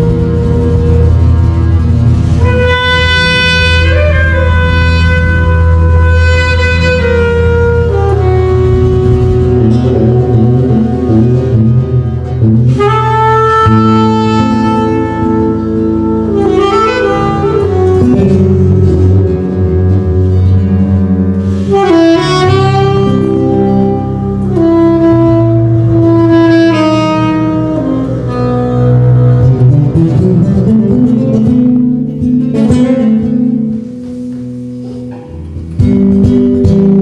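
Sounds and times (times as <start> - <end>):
jazz trio playing: 0.0 - 37.0.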